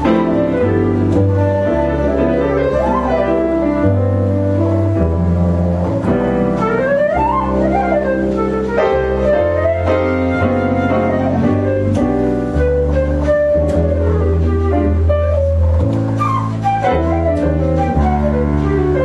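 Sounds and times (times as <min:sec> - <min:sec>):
flute melody: 0:00.0 - 0:19.0
piano chords: 0:00.0 - 0:19.0
plucked double bass: 0:00.0 - 0:19.0.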